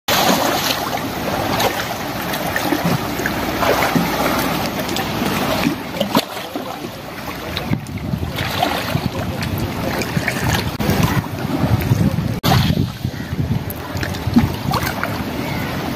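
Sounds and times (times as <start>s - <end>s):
sea waves washing: 0.1s - 15.9s
wind: 0.1s - 15.9s.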